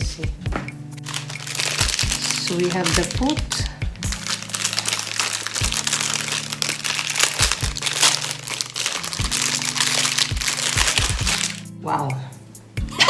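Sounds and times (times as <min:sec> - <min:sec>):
plastic packaging crinkling: 0:01.0 - 0:11.7.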